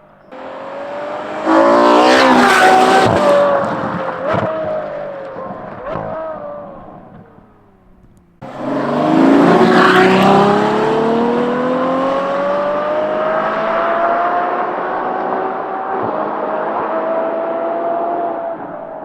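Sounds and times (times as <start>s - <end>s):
sports car engine accelerating: 0.2s - 19.0s.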